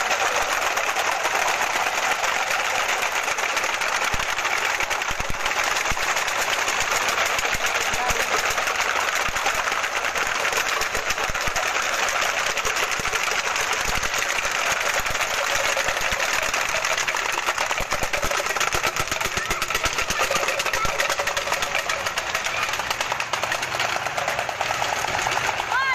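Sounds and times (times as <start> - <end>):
wooden clappers clattering: 0.0 - 25.9.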